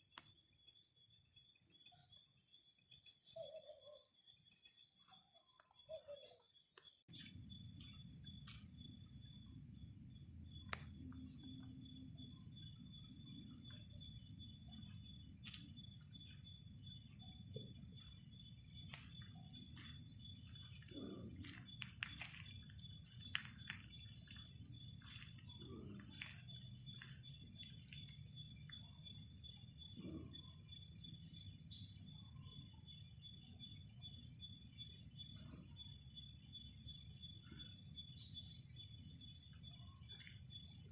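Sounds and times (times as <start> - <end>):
crickets and insects chirping: 0.0 - 40.9.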